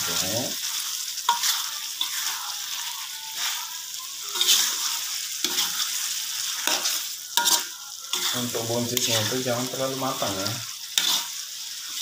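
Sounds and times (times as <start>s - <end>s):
metal spatula scraping wok: 0.0s - 12.0s
sauce sizzling: 0.0s - 12.0s.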